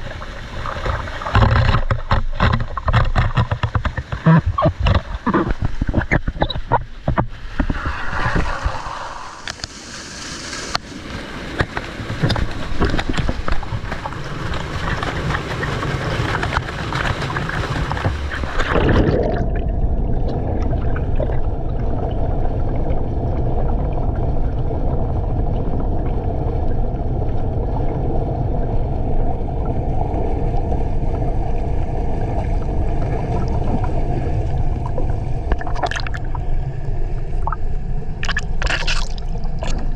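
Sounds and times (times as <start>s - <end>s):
muffled underwater rumble: 0.0s - 39.9s
water splashing and rushing: 0.0s - 39.9s.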